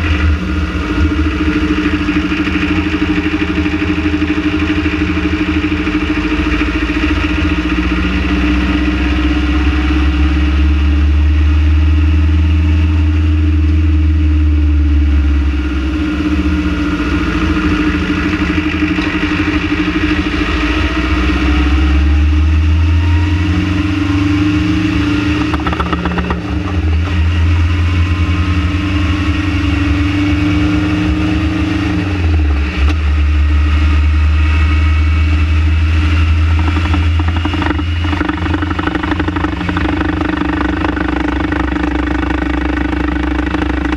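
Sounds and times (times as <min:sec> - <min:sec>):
van engine droning: 0:00.0 - 0:43.9.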